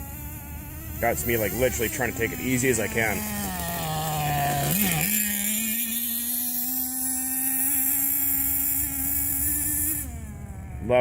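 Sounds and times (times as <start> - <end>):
nitro engine buzzing: 0.0 - 11.0.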